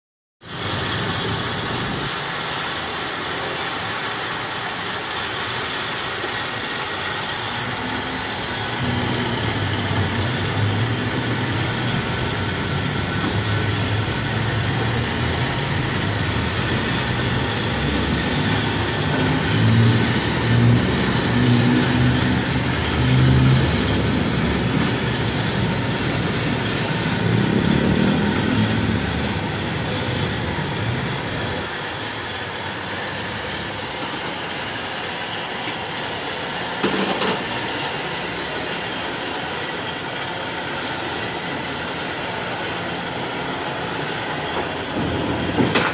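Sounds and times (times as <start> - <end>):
powered loading deck motor running: 0.5 - 45.9.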